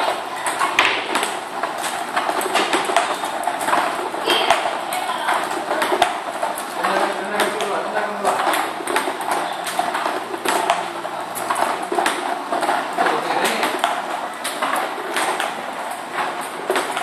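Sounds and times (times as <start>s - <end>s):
table tennis balls clicking: 0.0s - 17.0s.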